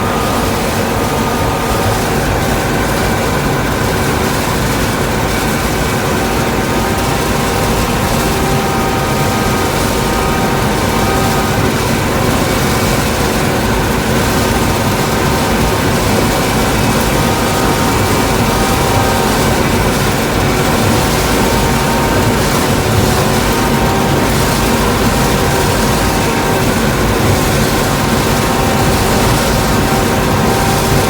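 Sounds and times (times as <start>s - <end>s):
heavy harvester engine: 0.0s - 31.0s
machinery whine: 0.0s - 31.0s.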